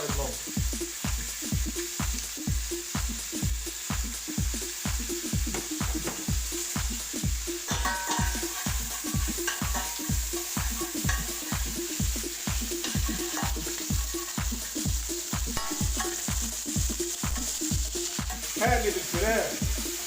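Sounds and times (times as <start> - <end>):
music with deep beat: 0.0 - 20.0
onion frying in oil: 0.0 - 20.0.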